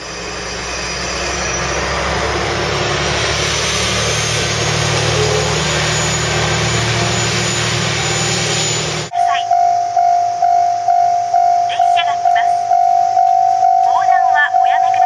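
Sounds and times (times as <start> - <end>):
diesel train engines running: 0.0 - 15.0.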